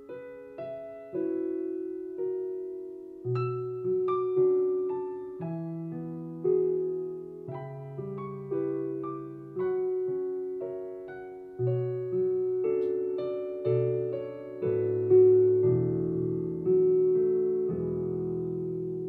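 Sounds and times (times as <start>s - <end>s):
slow solo piano piece: 0.0s - 19.0s.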